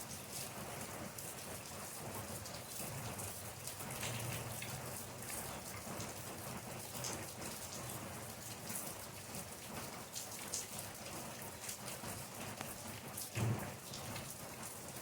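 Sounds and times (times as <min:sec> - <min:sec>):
raindrops pattering on a surface: 0:00.0 - 0:15.0.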